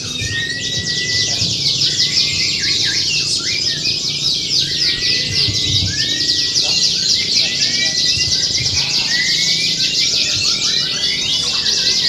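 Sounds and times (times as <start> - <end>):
canaries singing: 0.0 - 12.0.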